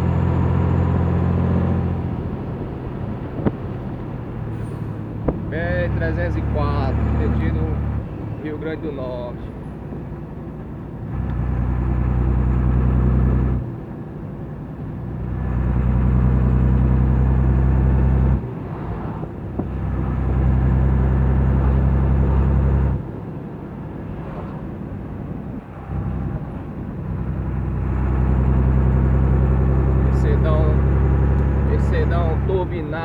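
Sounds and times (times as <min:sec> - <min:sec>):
diesel truck engine droning: 0:00.0 - 0:33.0.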